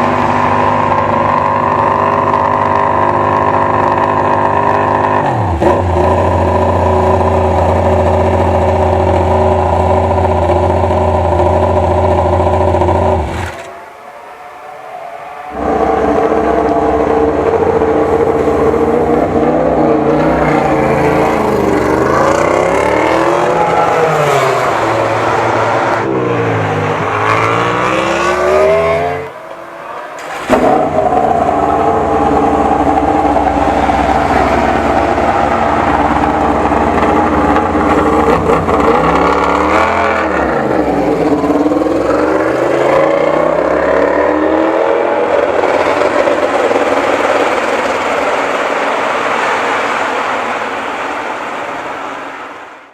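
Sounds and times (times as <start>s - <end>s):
motorcycle engine revving: 0.0s - 13.9s, 15.5s - 49.3s.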